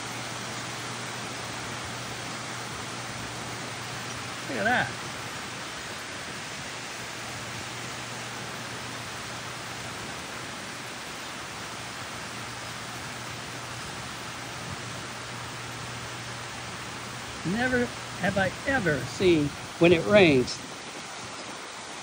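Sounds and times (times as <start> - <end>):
heavy rain hissing: 0.0 - 22.0
runoff water rushing: 0.0 - 22.0.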